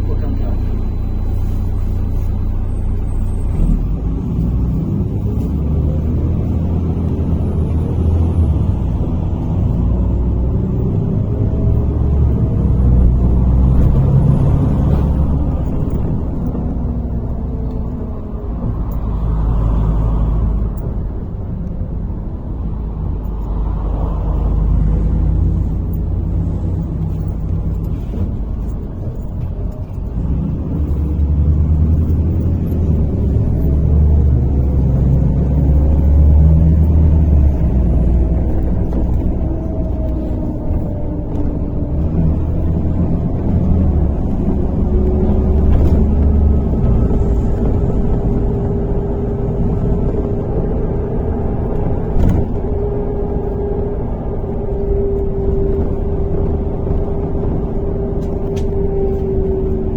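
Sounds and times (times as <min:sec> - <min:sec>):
bus engine rumbling: 0:00.0 - 0:59.9
constant whine: 0:00.0 - 0:59.9.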